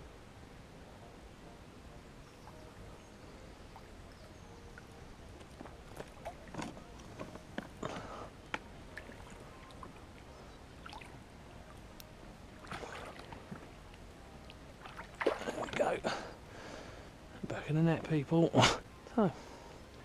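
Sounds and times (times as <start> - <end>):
water splashing and sloshing: 2.4 - 18.7.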